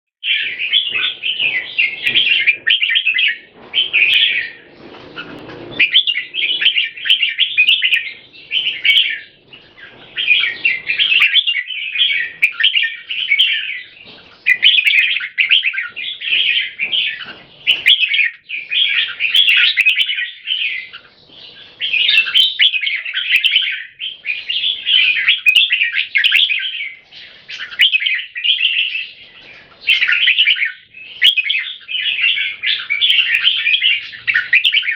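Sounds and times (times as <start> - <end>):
birds singing chattering phrases: 0.2 - 34.9.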